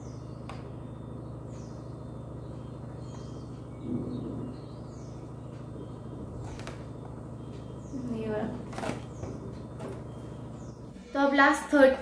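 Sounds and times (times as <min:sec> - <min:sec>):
bird chirping faintly: 0:00.0 - 0:11.2
low background hum: 0:00.0 - 0:12.0.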